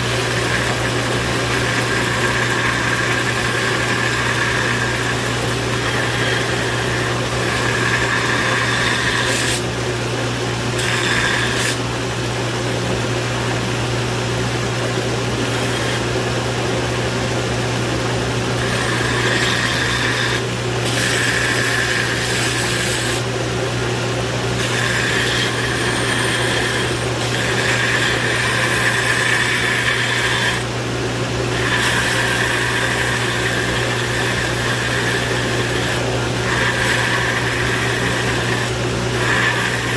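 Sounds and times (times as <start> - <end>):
grinder grinding steel: 0.0 - 10.0, 10.6 - 12.2, 14.6 - 39.9
electric grinder motor hum: 0.0 - 11.9, 14.1 - 39.9.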